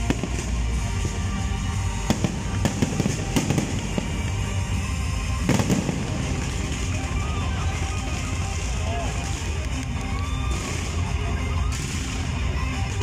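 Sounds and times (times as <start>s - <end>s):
fireworks bangs and crackle: 0.0s - 13.0s.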